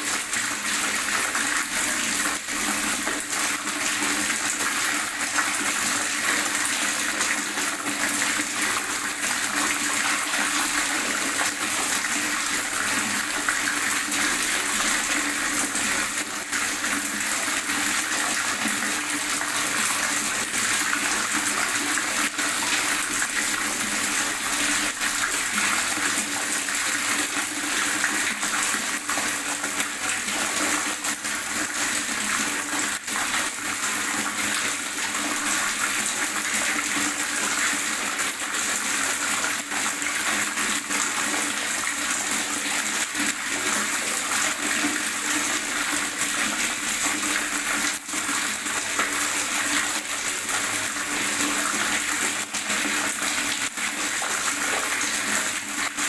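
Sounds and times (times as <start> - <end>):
water gurgling and running: 0.0 - 56.0.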